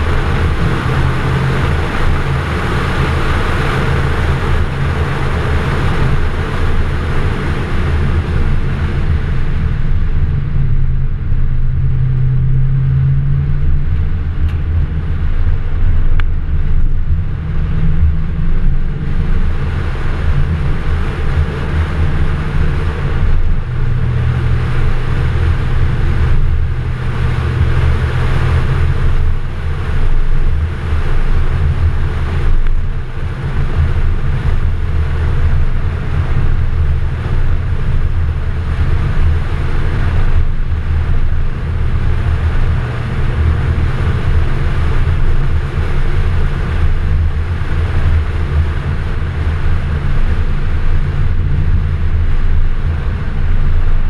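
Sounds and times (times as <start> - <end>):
car engine running at low revs: 0.0 - 54.0
wind noise: 0.0 - 54.0.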